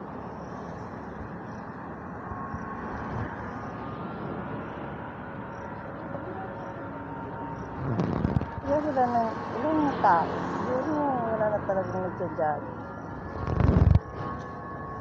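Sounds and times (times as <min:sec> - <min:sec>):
faint engine tones: 0:00.0 - 0:15.0
road traffic hum: 0:00.0 - 0:15.0.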